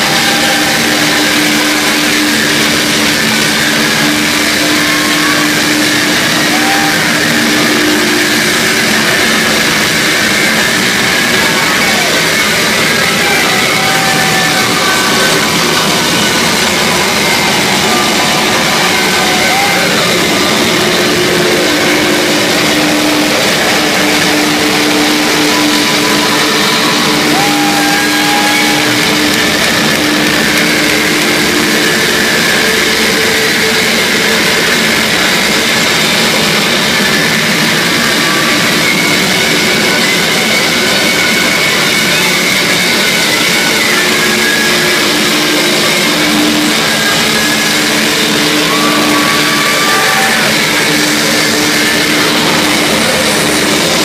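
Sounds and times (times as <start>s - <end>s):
distorted guitar noise: 0.0s - 54.0s
high whistling tones: 0.0s - 54.0s
low drone: 0.0s - 54.0s.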